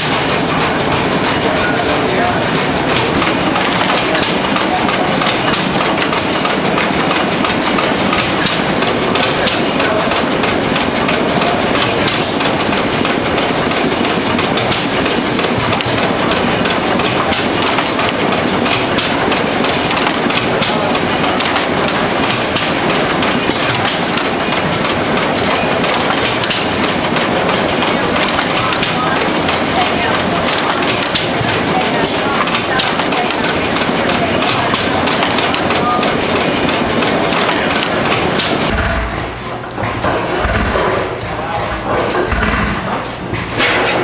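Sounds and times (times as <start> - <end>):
stationary engine clattering: 0.0 - 44.0.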